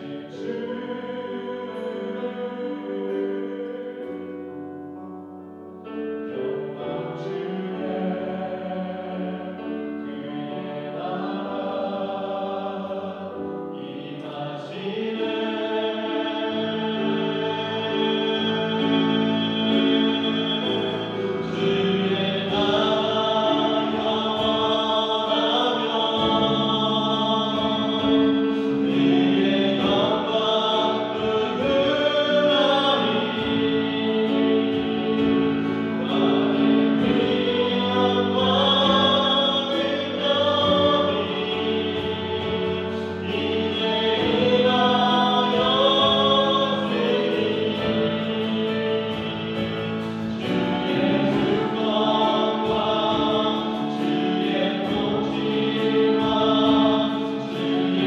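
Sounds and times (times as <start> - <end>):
group singing worship song: 0.0 - 4.8, 6.2 - 58.0.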